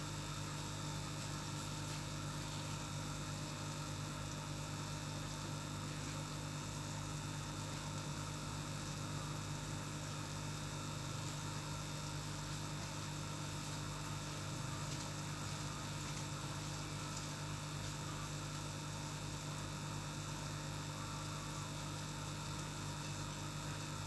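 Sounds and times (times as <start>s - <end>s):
aquarium air pump humming: 0.0s - 24.0s.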